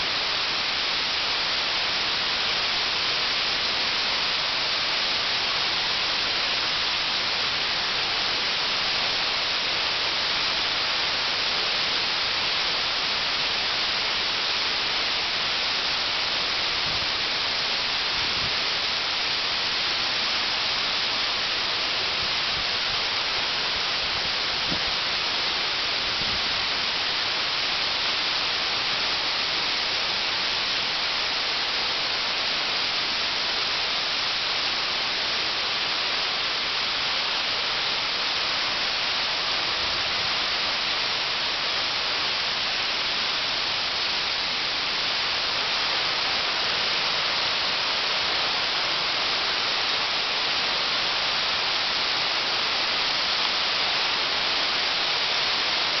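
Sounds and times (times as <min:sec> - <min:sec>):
waterfall hissing into pool: 0:00.0 - 0:56.0.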